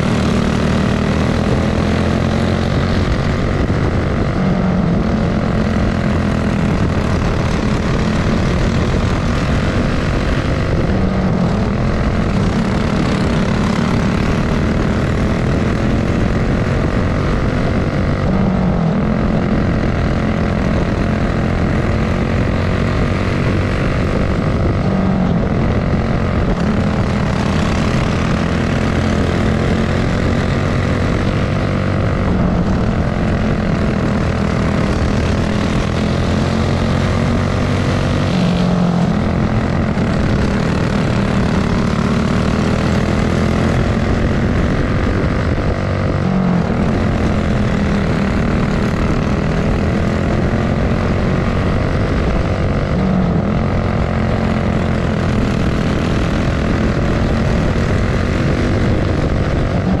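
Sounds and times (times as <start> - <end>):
kart engine buzzing: 0.0 - 60.0.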